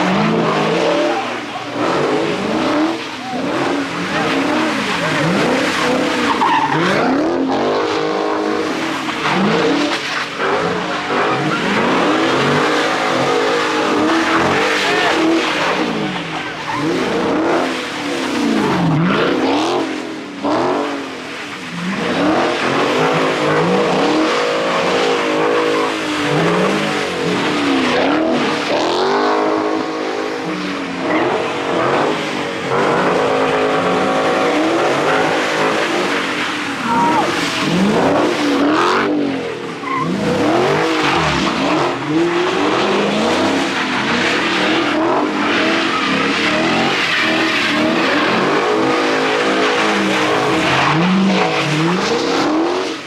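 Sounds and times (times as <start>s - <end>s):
car engine revving hard: 0.0s - 53.0s.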